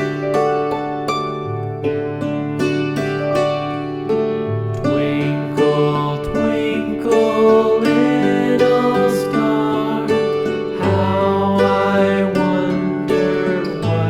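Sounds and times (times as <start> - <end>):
gentle plucked string melody: 0.0 - 14.0.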